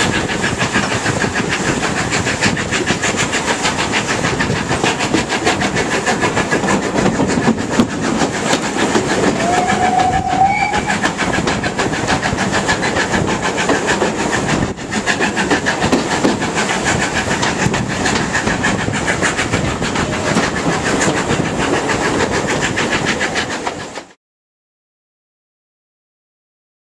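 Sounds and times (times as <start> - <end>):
steam train running on rails: 0.0 - 24.2.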